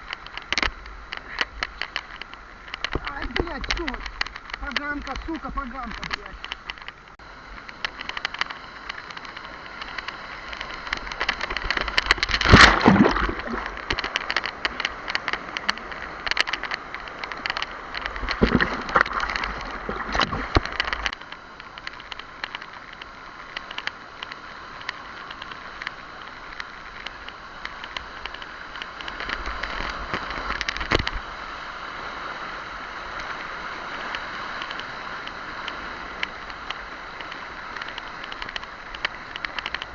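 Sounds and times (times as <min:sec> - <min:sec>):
crackling water splashes: 0:00.0 - 0:39.9
rushing river water: 0:00.0 - 0:39.9.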